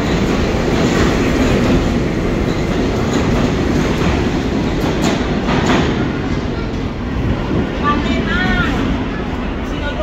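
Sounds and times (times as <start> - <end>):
subway train rumbling on rails: 0.0 - 10.0.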